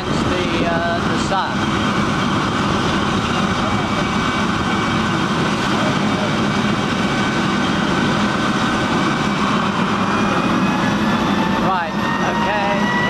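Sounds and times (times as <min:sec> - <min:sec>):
helicopter rotor beating: 0:00.0 - 0:13.0
helicopter turbine whine: 0:00.0 - 0:13.0.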